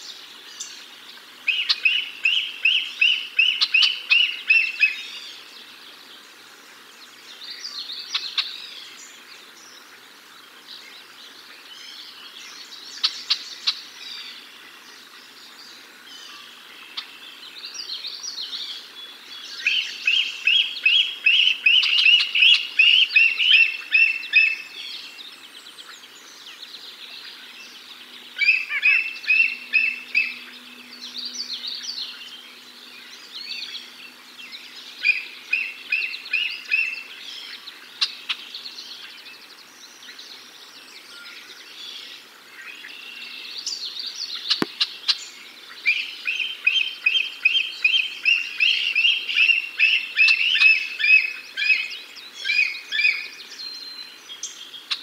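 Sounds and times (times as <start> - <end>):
birds chirping rapidly: 6.9 - 55.0.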